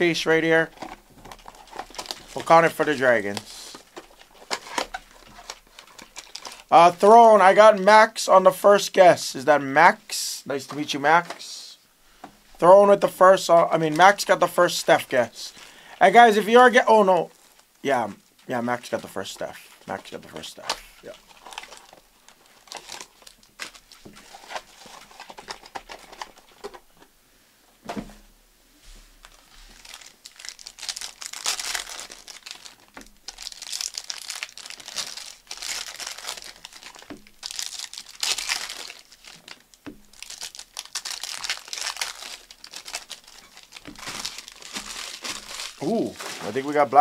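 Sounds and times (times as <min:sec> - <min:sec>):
plastic wrappers crinkling and tearing: 0:00.1 - 0:08.1, 0:13.3 - 0:27.0, 0:29.2 - 0:47.0.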